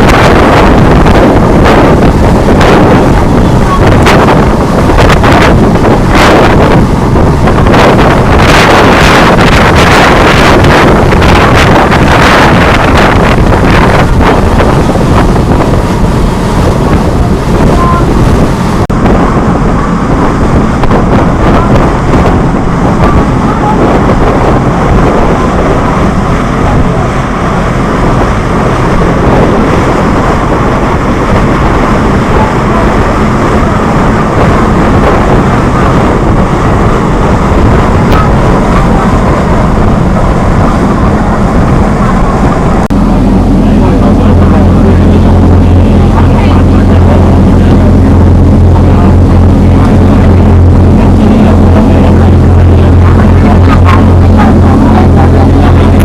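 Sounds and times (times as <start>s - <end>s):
boat engine drone: 0.0s - 56.0s
water rushing: 0.0s - 56.0s
wind buffeting microphone: 0.0s - 56.0s.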